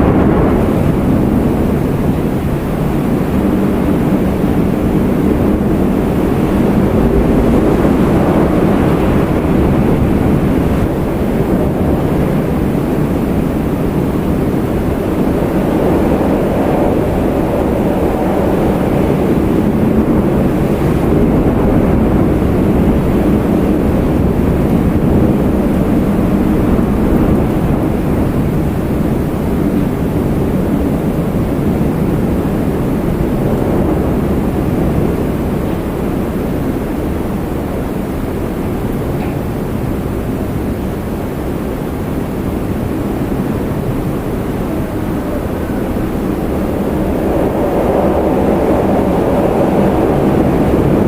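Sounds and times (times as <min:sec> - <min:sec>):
wind blowing: 0:00.0 - 0:51.0.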